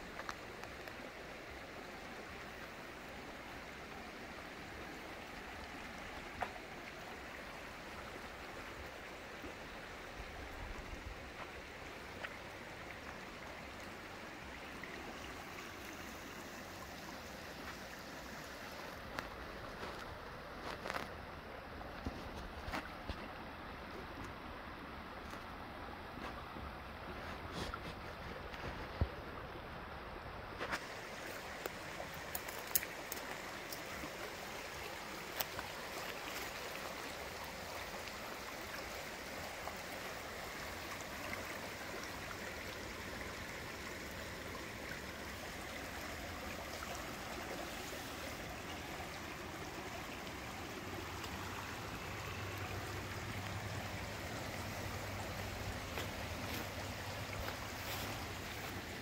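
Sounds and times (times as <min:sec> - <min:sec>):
river babbling over rocks: 0:00.0 - 0:59.0.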